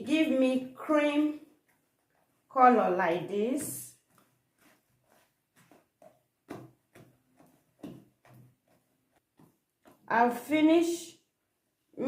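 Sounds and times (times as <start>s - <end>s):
batter squelching in a bowl: 0.0s - 11.0s.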